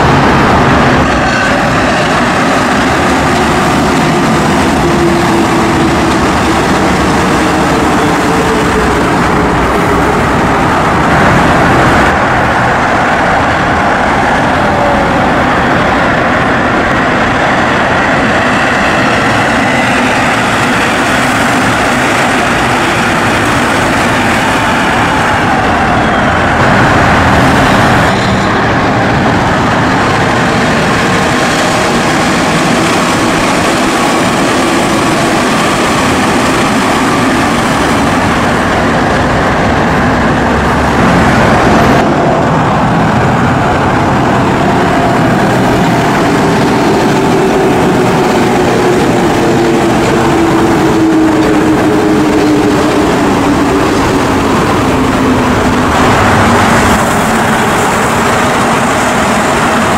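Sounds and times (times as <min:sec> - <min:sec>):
metro train tyres rumbling: 0:00.0 - 0:59.9
traction equipment whine: 0:00.0 - 0:59.9.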